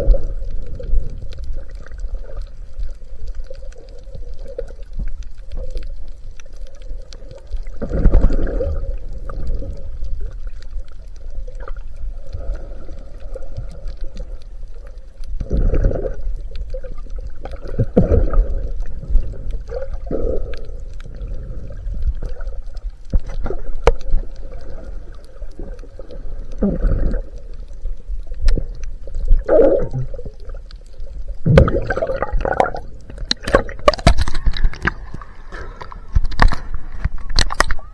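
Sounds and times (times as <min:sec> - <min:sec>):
muffled underwater water noise: 0:00.0 - 0:37.9
water splashing and bubbling: 0:00.0 - 0:37.9.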